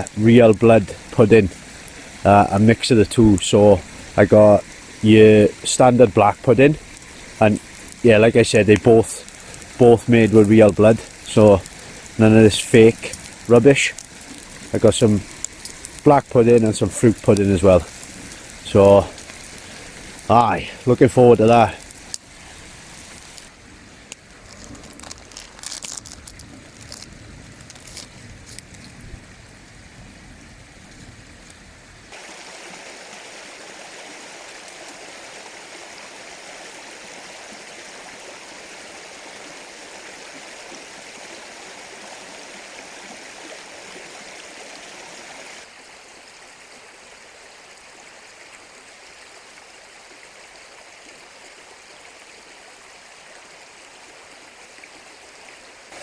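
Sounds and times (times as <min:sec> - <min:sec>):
stream water rushing: 0:00.0 - 0:28.8, 0:30.8 - 0:56.0.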